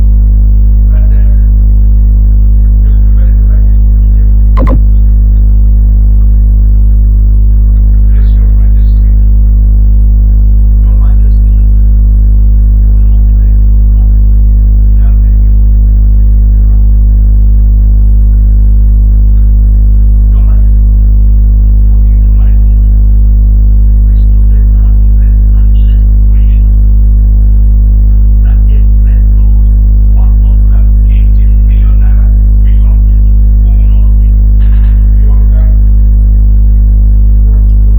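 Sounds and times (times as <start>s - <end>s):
faint scattered sounds: 0.0s - 37.9s
loud low hum: 0.0s - 37.9s.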